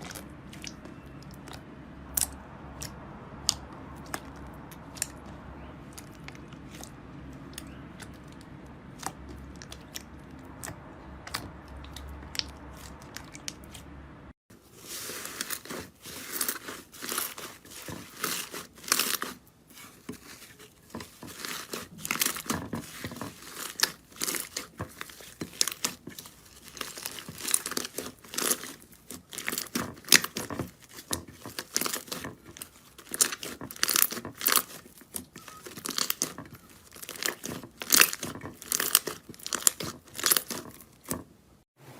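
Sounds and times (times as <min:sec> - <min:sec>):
slime crackling and crunching: 0:00.0 - 0:13.8, 0:14.6 - 0:41.2.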